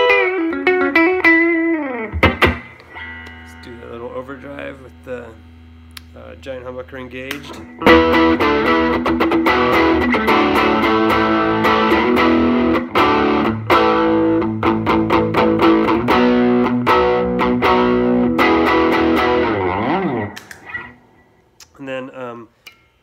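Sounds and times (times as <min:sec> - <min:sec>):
overdriven electric guitar strumming: 0:00.0 - 0:04.8, 0:07.6 - 0:21.4.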